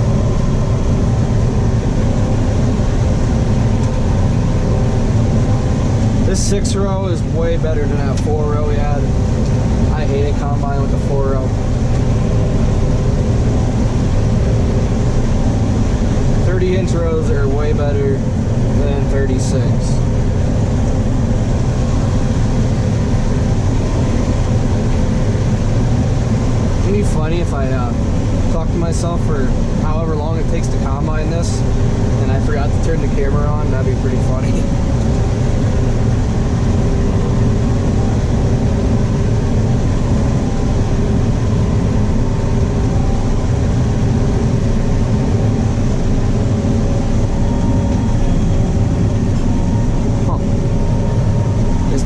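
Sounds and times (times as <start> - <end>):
combine harvester engine drone: 0.0 - 52.0
faint steady whines: 0.0 - 52.0.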